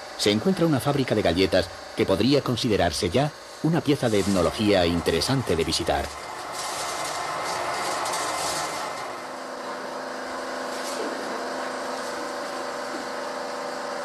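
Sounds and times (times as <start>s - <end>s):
motor-driven drum turning: 0.0s - 14.0s.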